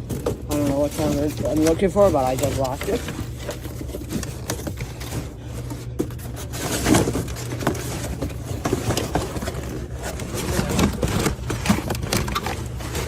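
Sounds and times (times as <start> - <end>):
low machine hum: 0.0 - 13.0
rummaging through cardboard boxes: 0.0 - 13.0.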